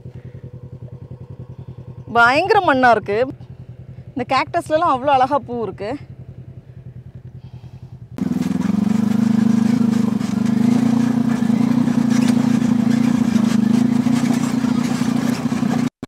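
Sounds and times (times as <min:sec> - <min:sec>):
off-road vehicle engine running: 0:00.0 - 0:16.0.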